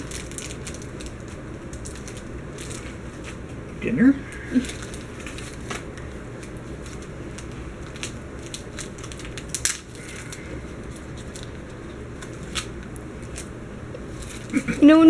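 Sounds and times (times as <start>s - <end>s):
wrapping paper crackling: 0.0s - 15.0s.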